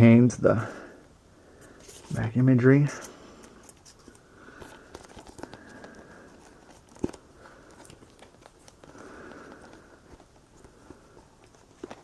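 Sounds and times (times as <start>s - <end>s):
packaging rustling and scraping: 1.6s - 12.0s.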